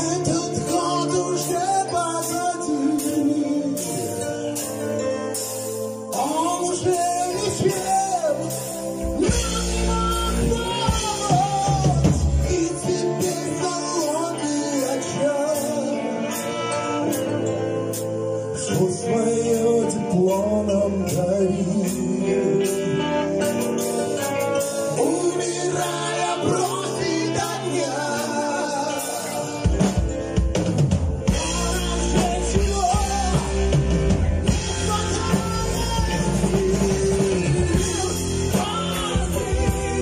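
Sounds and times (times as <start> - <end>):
live rock band playing: 0.0 - 40.0
man singing lead: 0.0 - 40.0.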